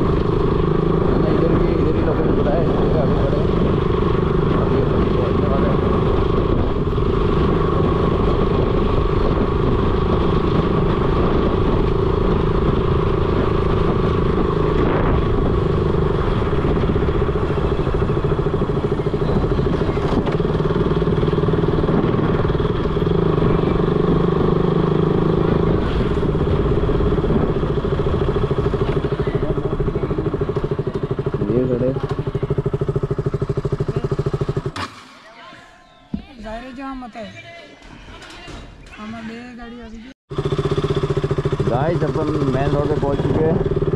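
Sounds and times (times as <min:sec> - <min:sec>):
motorcycle engine running: 0:00.0 - 0:35.2, 0:40.3 - 0:43.9
road and wind noise: 0:00.0 - 0:35.2, 0:39.6 - 0:43.9.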